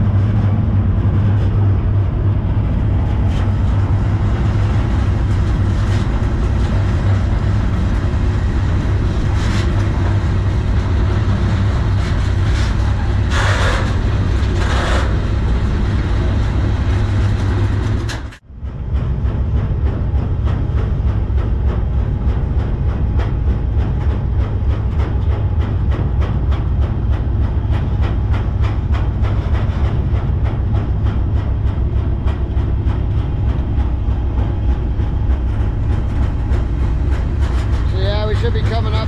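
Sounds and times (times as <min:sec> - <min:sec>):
freight train rumbling: 0:00.0 - 0:39.0
wheels clattering over rails: 0:00.0 - 0:39.0.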